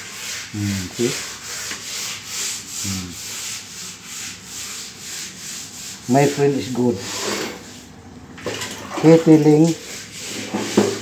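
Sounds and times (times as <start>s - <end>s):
stiff brush scrubbing: 0.0s - 7.9s, 9.0s - 11.0s.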